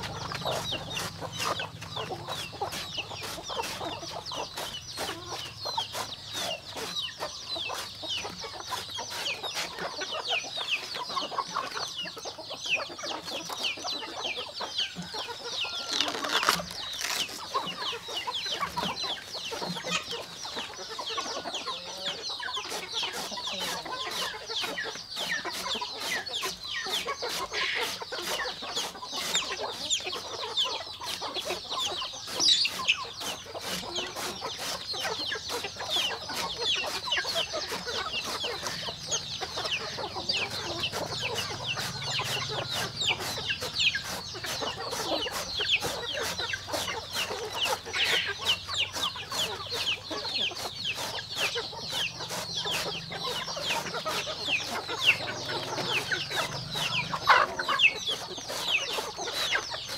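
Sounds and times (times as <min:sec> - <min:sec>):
chickens peeping and clucking: 0:00.0 - 0:59.9.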